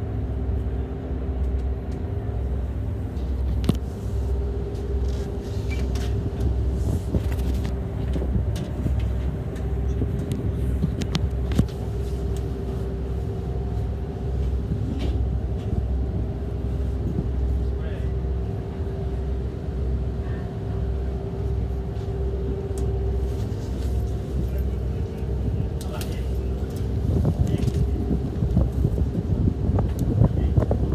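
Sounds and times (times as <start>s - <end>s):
engine running: 0.0s - 30.9s.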